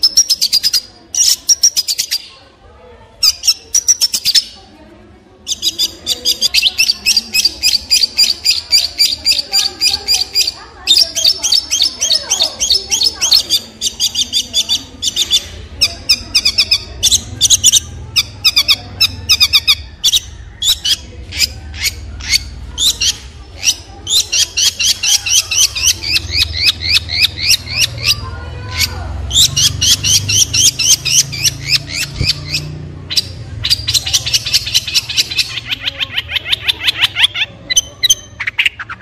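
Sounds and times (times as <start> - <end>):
bird singing rapid high notes: 5.4 - 39.0.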